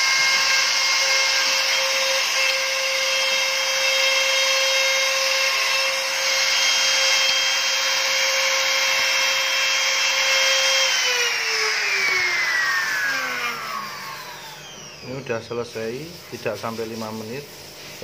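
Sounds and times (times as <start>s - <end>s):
router spindle whine: 0.0s - 16.4s.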